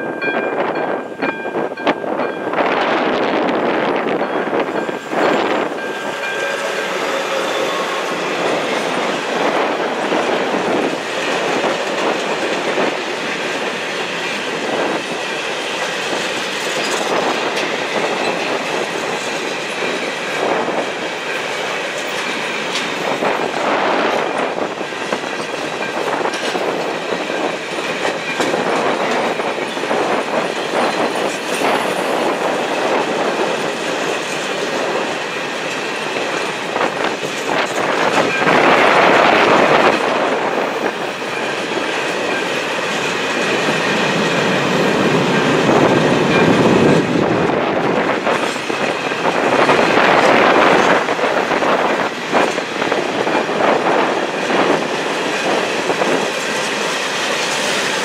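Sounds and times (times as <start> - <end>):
freight train rumbling past: 0.0 - 58.0
wheels clacking over rail joints: 0.1 - 58.0.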